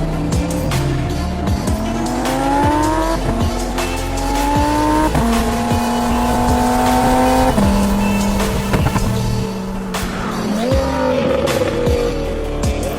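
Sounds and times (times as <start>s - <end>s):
car engine accelerating through gears: 0.0s - 12.9s.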